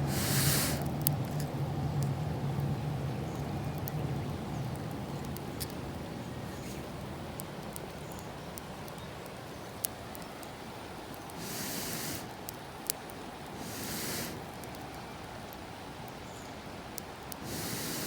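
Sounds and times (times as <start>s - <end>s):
campfire crackling and popping: 0.0s - 18.0s
low steady background noise: 0.0s - 18.0s
rustling hiss: 0.0s - 18.0s.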